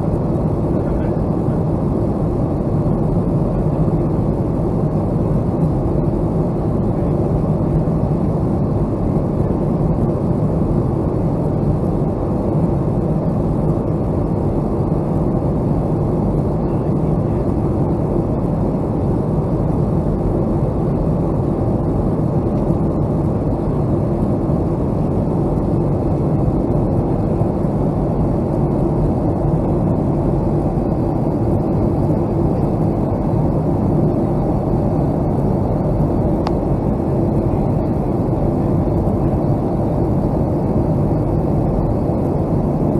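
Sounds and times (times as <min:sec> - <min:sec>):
airliner engine rumble: 0:00.0 - 0:42.9.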